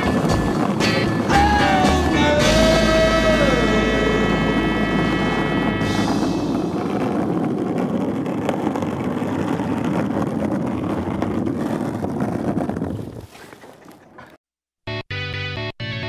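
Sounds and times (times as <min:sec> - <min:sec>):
skateboard wheels rolling on concrete: 0:00.0 - 0:14.4.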